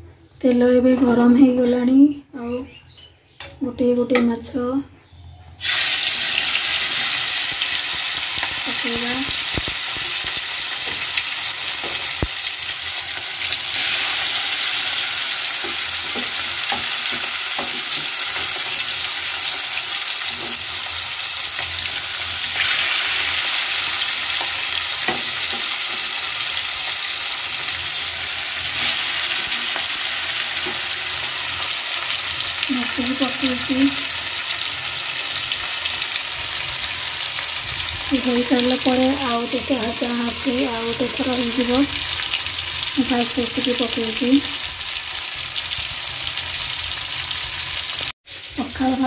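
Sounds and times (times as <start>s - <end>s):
fish sizzling in hot oil: 5.6s - 49.0s.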